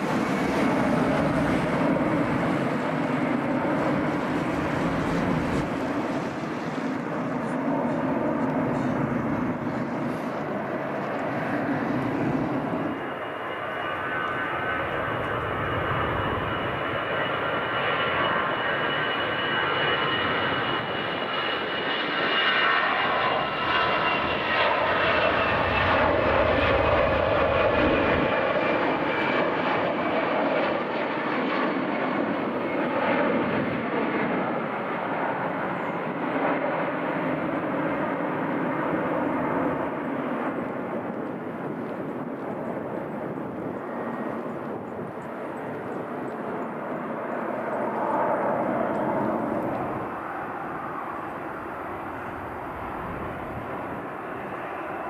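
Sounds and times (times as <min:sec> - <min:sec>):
jet engines roaring and whining: 0:00.0 - 0:55.0.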